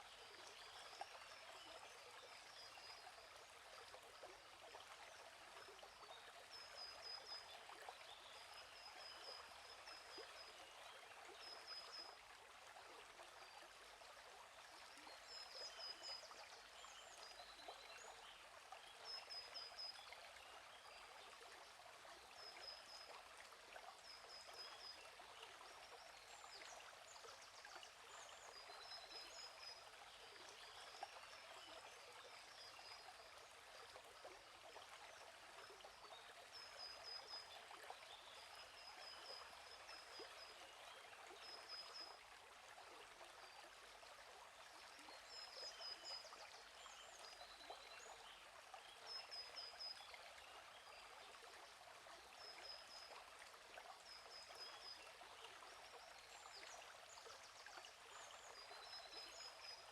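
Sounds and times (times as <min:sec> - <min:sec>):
flowing stream: 0:00.0 - 0:59.9.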